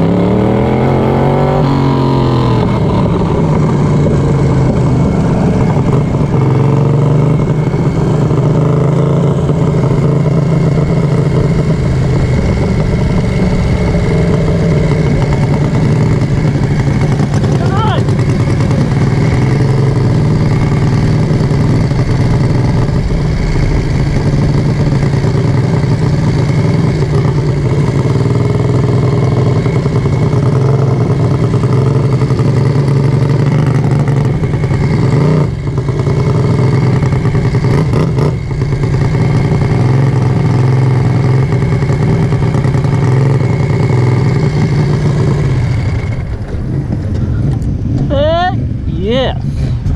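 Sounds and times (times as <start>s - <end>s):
lawnmower engine running: 2.1s - 49.9s.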